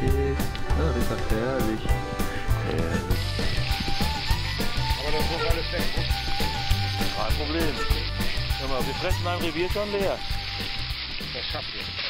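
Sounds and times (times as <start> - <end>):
country music: 0.0 - 12.0
meat sizzling in a pan: 0.6 - 12.0.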